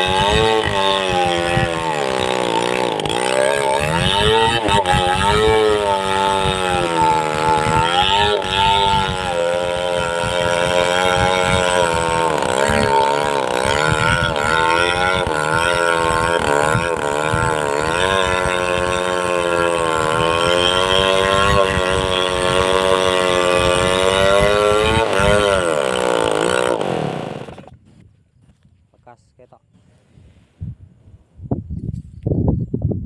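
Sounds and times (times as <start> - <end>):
chainsaw cutting wood: 0.0 - 27.8.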